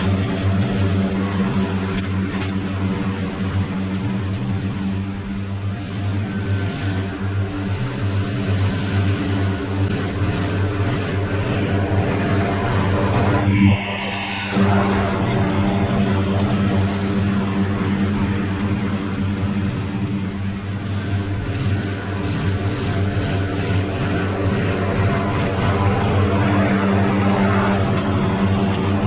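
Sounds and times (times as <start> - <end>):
small gasoline engine running: 0.0 - 13.7, 14.5 - 29.0.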